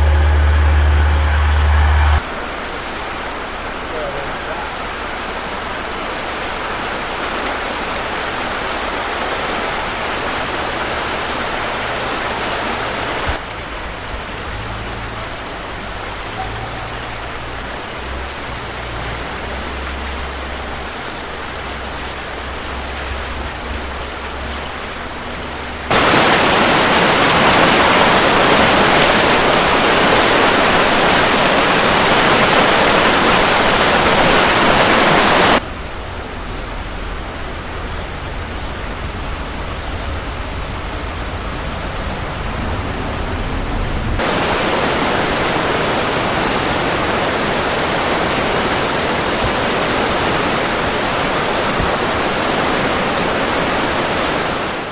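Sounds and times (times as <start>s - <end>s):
rushing creek water: 0.0s - 54.9s.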